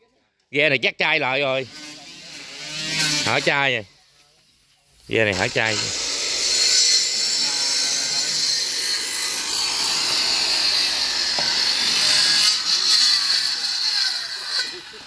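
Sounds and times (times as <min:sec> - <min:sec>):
circular saw cutting wood: 0:01.2 - 0:15.0.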